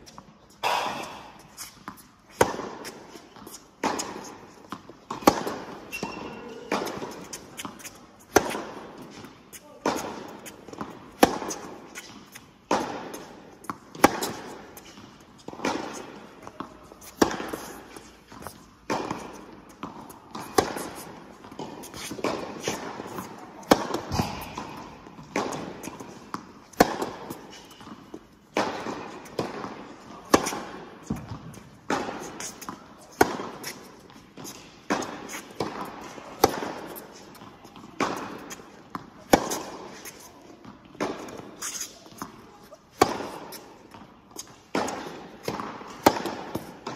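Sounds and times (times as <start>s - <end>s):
racket hitting tennis ball: 0.0s - 46.9s
tennis ball bouncing: 0.0s - 46.9s.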